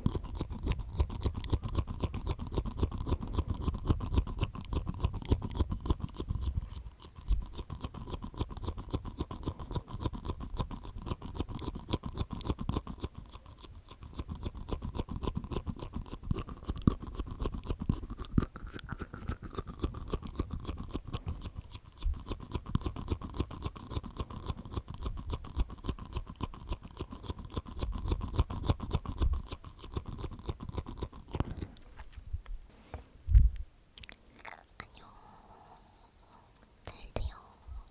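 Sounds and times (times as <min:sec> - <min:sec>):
wet mouth clicks and smacks: 0:00.0 - 0:31.9, 0:33.3 - 0:37.9.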